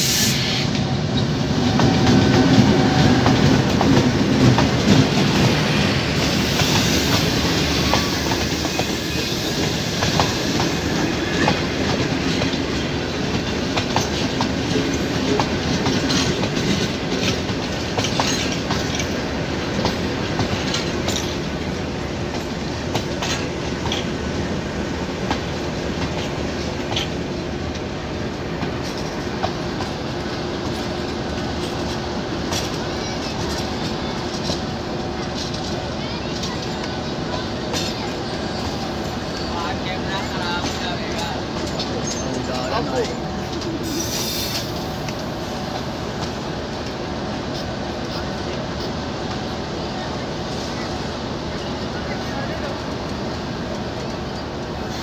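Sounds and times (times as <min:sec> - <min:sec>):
diesel locomotive engine rumble: 0:00.0 - 0:55.0
train wheels clicking over rail joints: 0:00.0 - 0:55.0.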